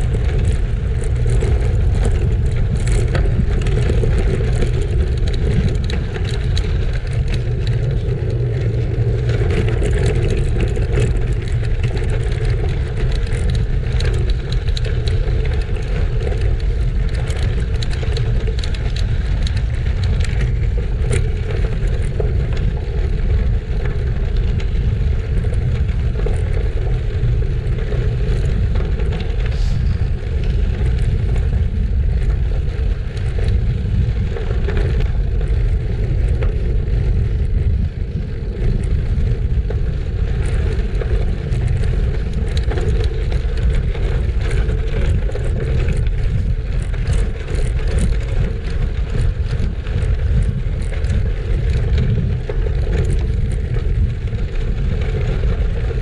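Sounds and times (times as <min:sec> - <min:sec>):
stones and bike rattling: 0:00.0 - 0:56.0
tyres rolling on gravel: 0:00.0 - 0:56.0
wind over microphone: 0:00.0 - 0:56.0.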